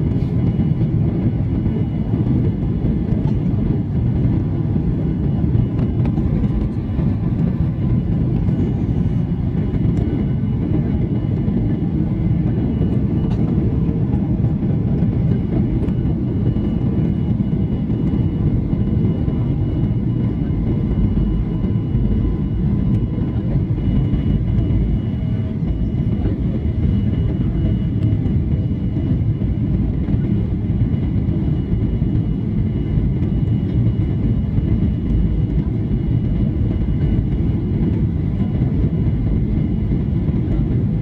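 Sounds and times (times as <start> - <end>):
aircraft engine and airflow noise: 0.0 - 41.0
faint steady tones: 0.0 - 41.0.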